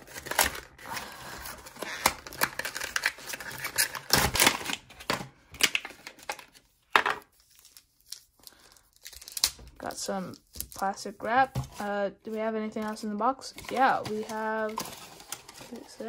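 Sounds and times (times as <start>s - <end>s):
plastic wrap crinkling: 0.0s - 11.0s, 12.9s - 16.0s.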